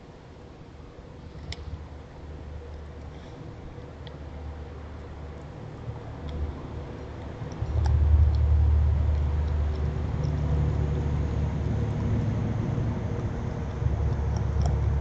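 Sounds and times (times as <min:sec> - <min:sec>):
low engine rumble: 0:00.7 - 0:15.0.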